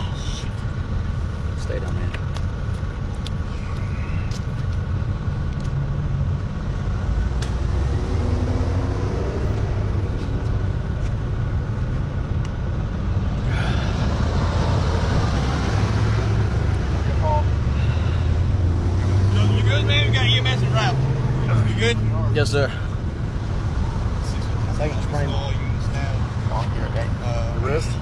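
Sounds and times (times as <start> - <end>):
low rumble of traffic: 0.0 - 28.0.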